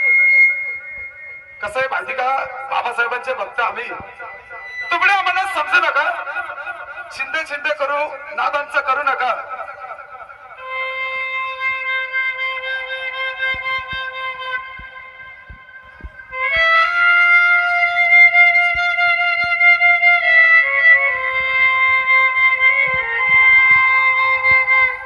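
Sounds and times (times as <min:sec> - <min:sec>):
wind instrument melody: 0:00.0 - 0:07.1, 0:09.4 - 0:25.0.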